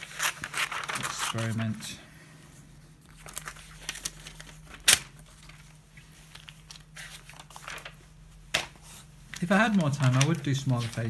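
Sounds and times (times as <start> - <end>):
paper rustling: 0.0 - 2.0, 3.0 - 11.0.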